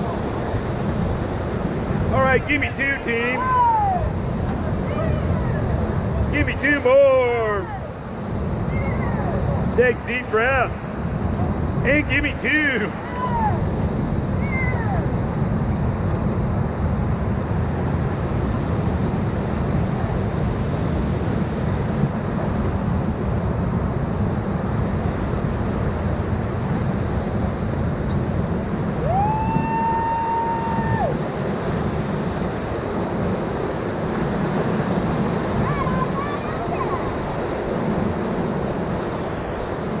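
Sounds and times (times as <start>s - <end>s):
rushing river rapids: 0.0s - 40.0s
wind buffeting microphone: 0.0s - 40.0s.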